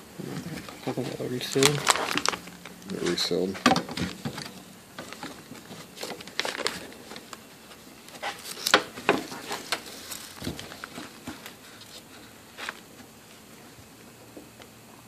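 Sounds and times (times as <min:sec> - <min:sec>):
work gloves rustling: 0:00.2 - 0:13.6.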